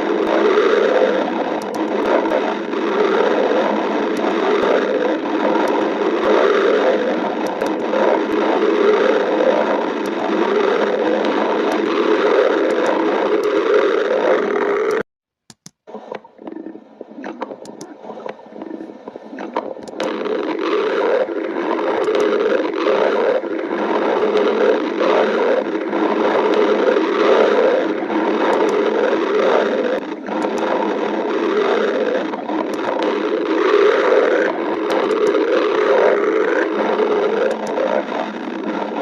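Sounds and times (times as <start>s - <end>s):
stomach growling: 0.0s - 15.1s, 15.8s - 39.0s.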